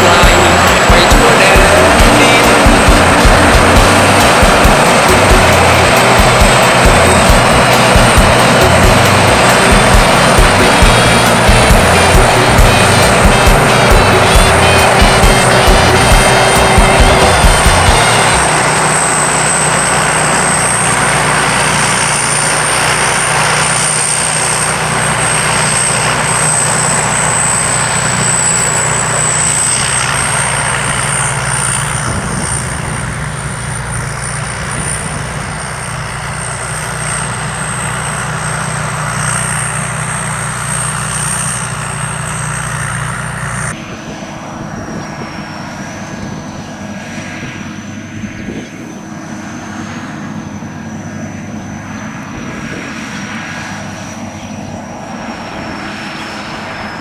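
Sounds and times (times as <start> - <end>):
combine harvester engine and machinery: 0.0 - 57.0
thin high whine: 0.0 - 57.0.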